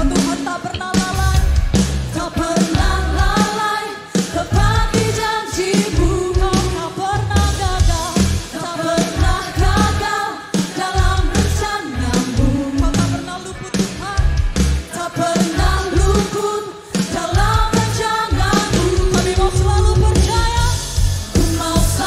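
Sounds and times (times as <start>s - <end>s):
person singing: 0.0s - 1.5s, 2.2s - 20.8s
band with drums and bass: 0.0s - 22.0s.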